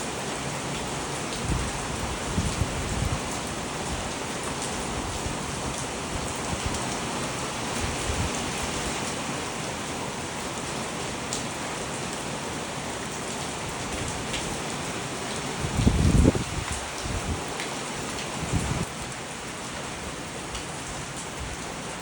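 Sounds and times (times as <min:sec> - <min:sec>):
heavy rain pattering: 0:00.0 - 0:22.0.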